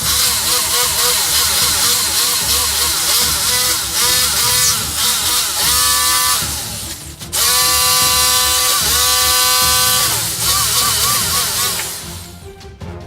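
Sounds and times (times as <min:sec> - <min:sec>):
power tool motor whining: 0:00.0 - 0:12.4.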